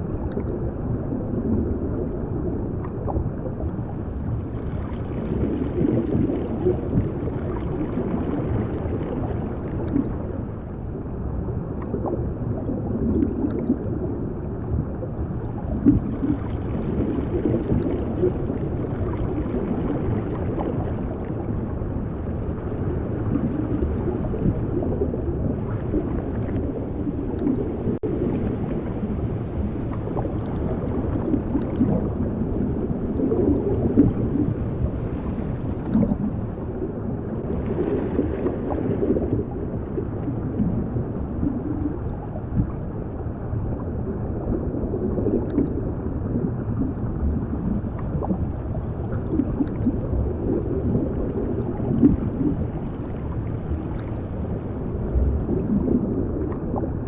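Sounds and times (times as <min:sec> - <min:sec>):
muffled underwater churning: 0:00.0 - 0:57.0.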